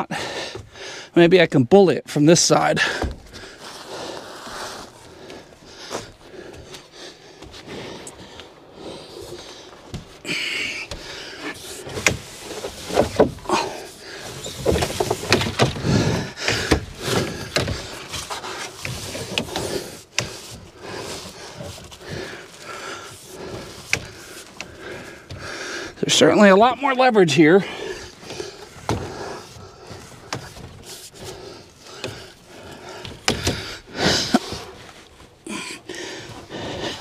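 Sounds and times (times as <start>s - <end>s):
conduit scraping and rubbing: 2.6s - 37.0s.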